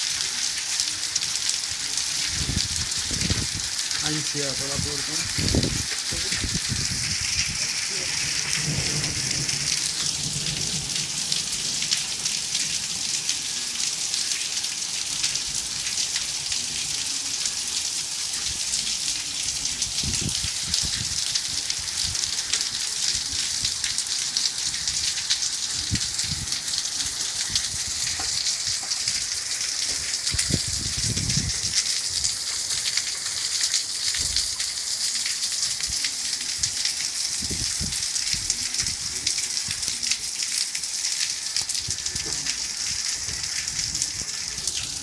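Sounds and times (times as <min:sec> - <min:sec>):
rain pattering: 0:00.0 - 0:45.0.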